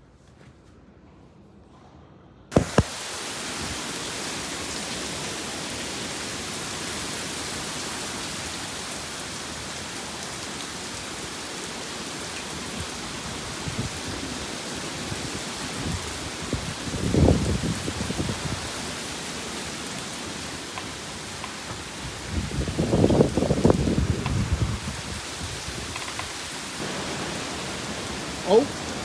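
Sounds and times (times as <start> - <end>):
heavy rain pouring: 2.5 - 29.0.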